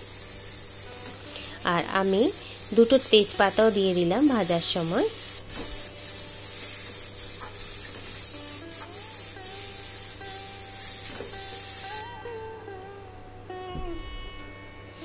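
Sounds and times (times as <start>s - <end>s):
papaya sizzling in hot oil: 0.0s - 12.0s
faint instrumental music: 0.8s - 15.0s.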